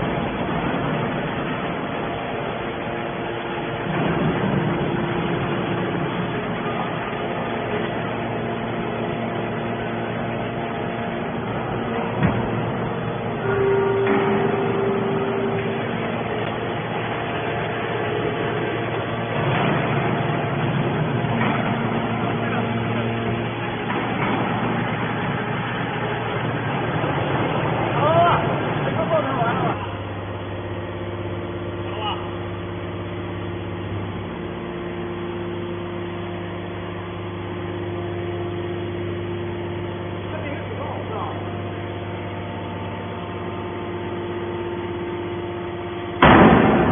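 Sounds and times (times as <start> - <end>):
hydraulic power unit humming: 0.0 - 46.9
machinery running: 0.0 - 46.9.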